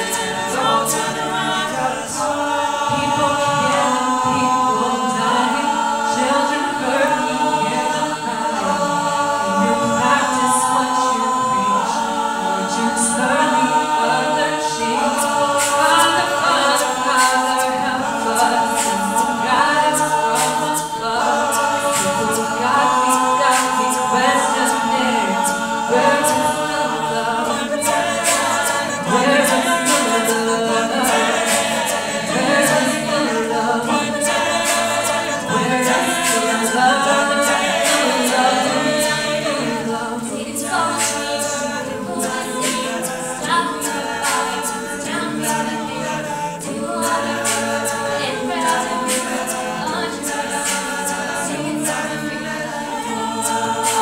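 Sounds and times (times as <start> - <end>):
a cappella group singing: 0.0 - 54.0
vocal percussion beat: 0.0 - 54.0.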